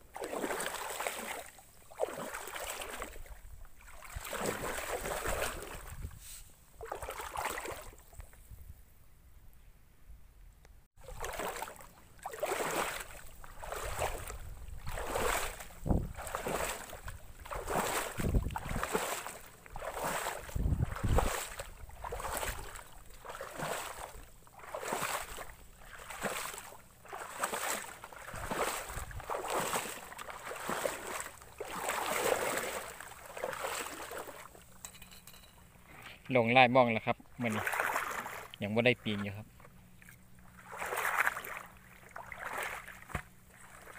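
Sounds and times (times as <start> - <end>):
footsteps wading through water: 0.0 - 8.5, 11.0 - 43.9.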